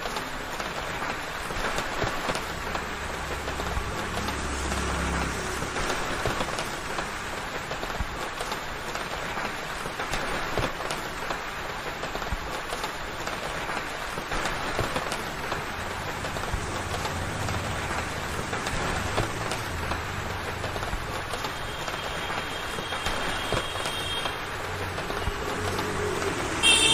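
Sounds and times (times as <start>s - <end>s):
rain falling: 0.0s - 26.9s
raindrops tapping on surfaces: 0.0s - 26.9s.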